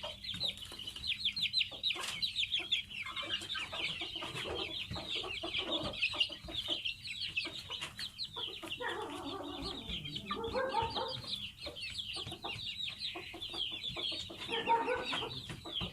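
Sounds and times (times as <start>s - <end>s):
chicks peeping: 0.0s - 15.9s.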